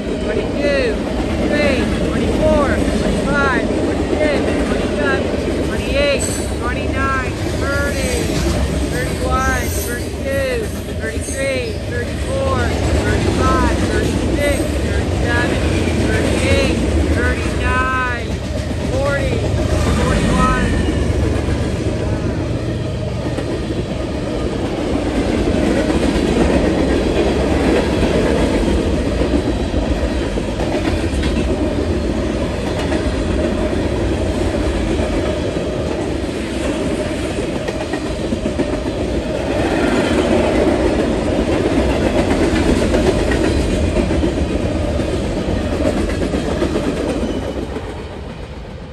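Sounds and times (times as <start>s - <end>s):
freight train cars rolling past: 0.0s - 48.9s.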